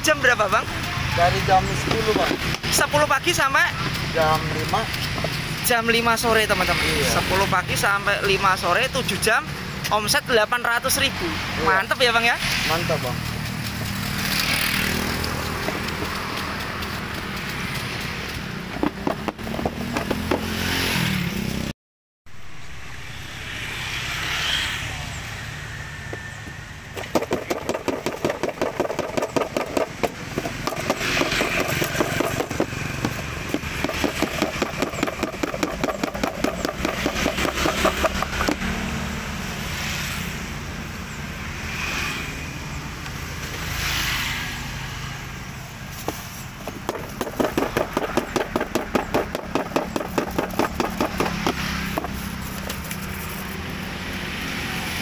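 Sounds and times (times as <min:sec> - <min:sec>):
motorbikes passing: 0:00.0 - 0:21.7, 0:22.4 - 0:55.0
street traffic: 0:00.0 - 0:55.0.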